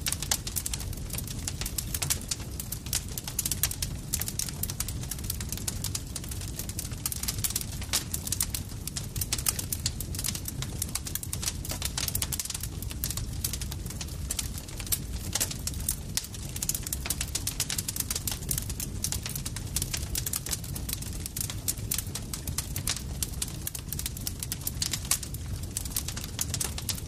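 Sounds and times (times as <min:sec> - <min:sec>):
burning wood snapping and popping: 0:00.0 - 0:27.0
low rumble of flames: 0:00.0 - 0:27.0.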